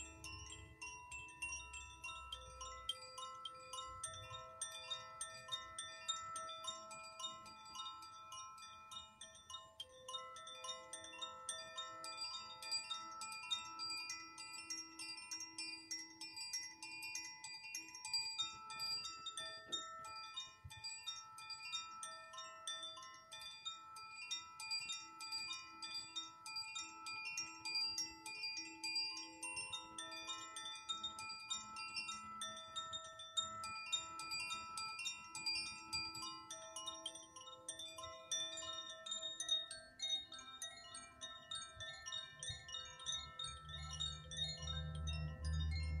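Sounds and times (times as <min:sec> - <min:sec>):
metal chimes ringing: 0:00.0 - 0:46.0.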